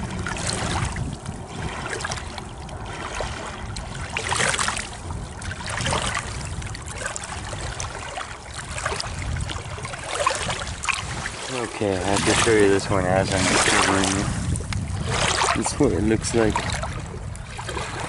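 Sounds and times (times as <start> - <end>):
water lapping among rocks: 0.0 - 18.0
wind rumble on microphone: 0.0 - 18.0.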